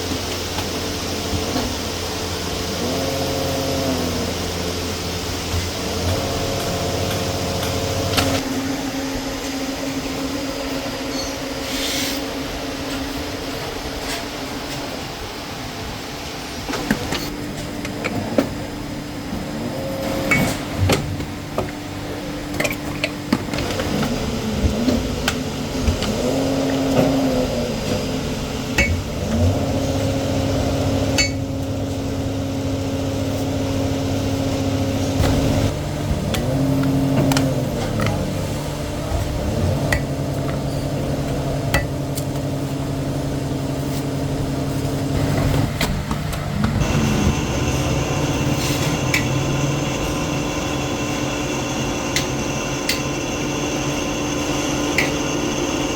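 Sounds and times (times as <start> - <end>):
factory motor hum: 0.0 - 55.9.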